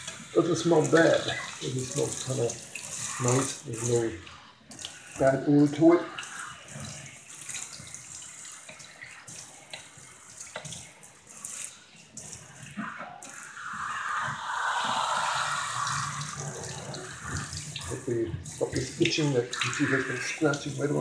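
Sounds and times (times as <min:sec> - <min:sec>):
sink sprayer water hissing: 0:00.0 - 0:21.0
water splashing in metal sink: 0:00.0 - 0:21.0.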